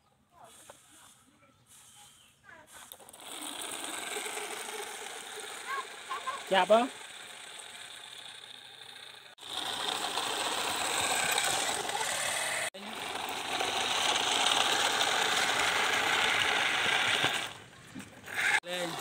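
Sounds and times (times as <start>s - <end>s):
small toy motor whirring: 2.7s - 19.0s.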